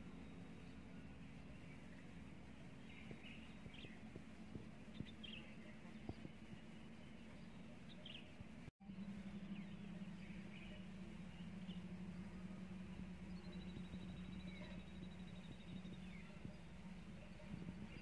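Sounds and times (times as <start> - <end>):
faint bird chirps: 0.0 - 18.0
low hum: 0.0 - 18.0.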